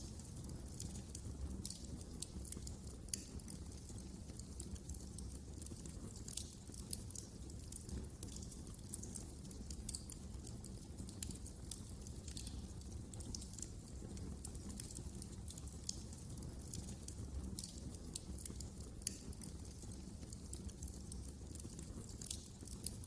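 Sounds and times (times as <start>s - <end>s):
low rumble of flames: 0.0s - 23.0s
wood fire pops and snaps: 0.0s - 23.0s.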